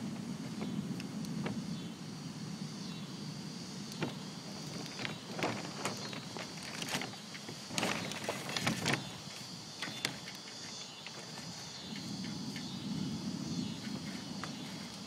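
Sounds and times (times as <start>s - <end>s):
distant thunder rumble: 0.0s - 10.4s, 11.2s - 15.0s
insects chirring: 0.0s - 15.0s
rain and gusts striking greenhouse: 0.0s - 15.0s.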